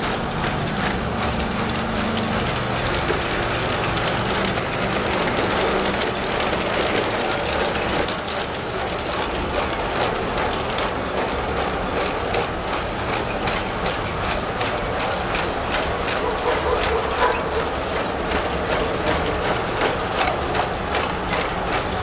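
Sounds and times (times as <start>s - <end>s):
plastic wagons clicking over track: 0.0s - 22.0s
toy train motor hum: 0.0s - 22.0s.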